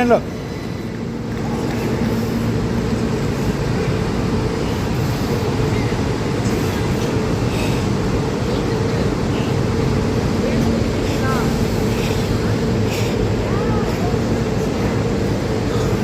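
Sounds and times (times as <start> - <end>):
train hum: 0.0 - 16.0
wheels rumbling on rail: 0.0 - 16.0.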